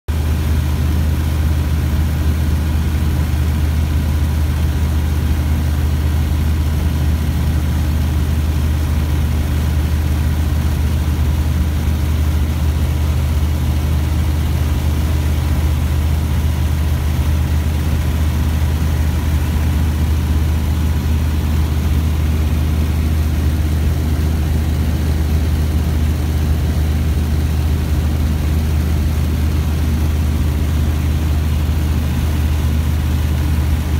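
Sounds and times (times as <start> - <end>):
aircraft engine and propeller droning: 0.1 - 33.9.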